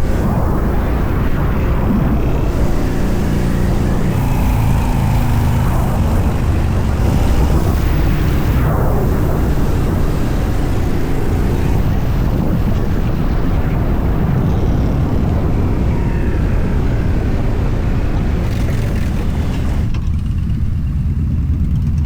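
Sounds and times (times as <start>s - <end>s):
wind rushing: 0.0s - 19.9s
motorcycle engine running: 0.0s - 22.0s.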